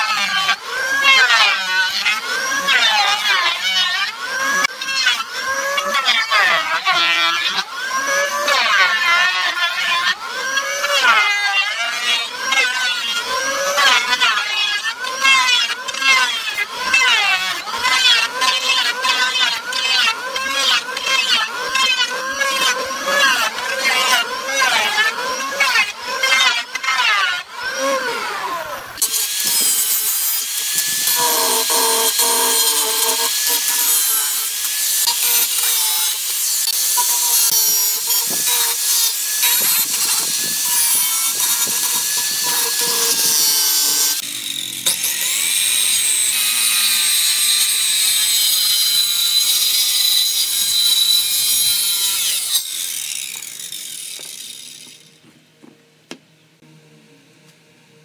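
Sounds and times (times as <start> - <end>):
angle grinder sanding wood: 0.0 - 55.2
electric planer on wood: 0.0 - 55.2.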